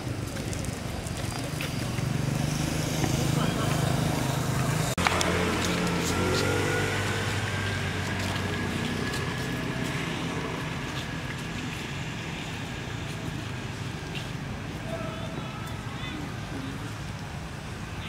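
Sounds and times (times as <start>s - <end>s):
motor vehicle engine hum: 0.0s - 15.5s.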